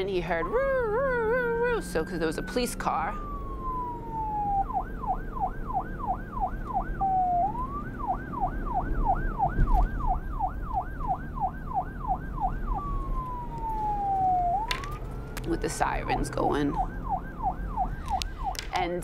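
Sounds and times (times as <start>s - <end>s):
police siren yelping and wailing: 0.0s - 19.0s.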